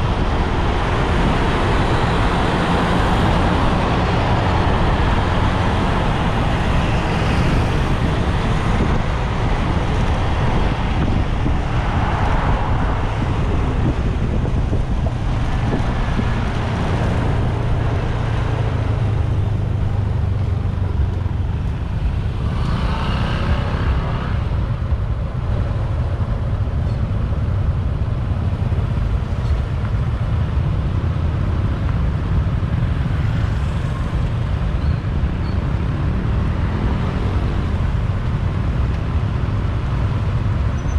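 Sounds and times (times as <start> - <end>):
road and traffic noise: 0.0 - 40.9.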